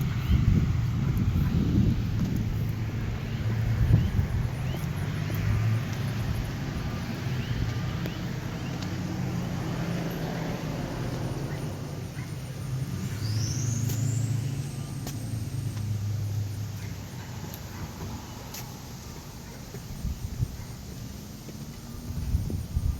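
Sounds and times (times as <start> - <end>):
vehicle engine humming: 0.0 - 22.9.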